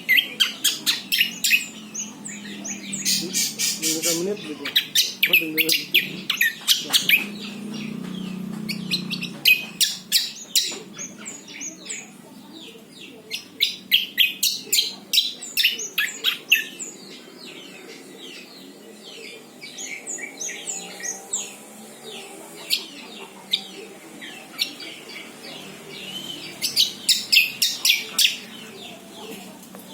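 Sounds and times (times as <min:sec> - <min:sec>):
songbird chirping: 0:00.0 - 0:29.9.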